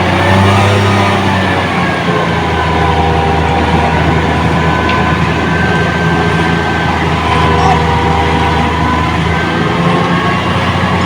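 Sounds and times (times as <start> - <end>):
heavy machinery engine running: 0.0 - 11.0.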